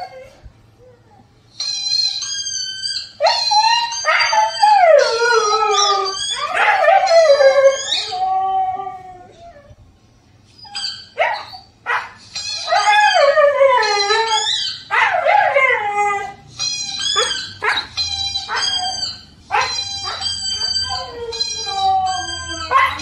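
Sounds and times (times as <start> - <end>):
dog howling from tv: 0.0 - 9.8, 10.6 - 23.0
puppy howling and yipping: 1.6 - 9.7, 10.6 - 23.0.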